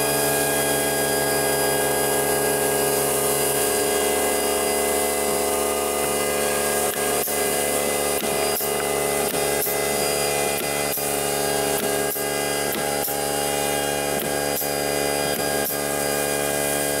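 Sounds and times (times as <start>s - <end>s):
air rushing from blower: 0.0s - 17.0s
leaf blower motor whine: 0.0s - 17.0s.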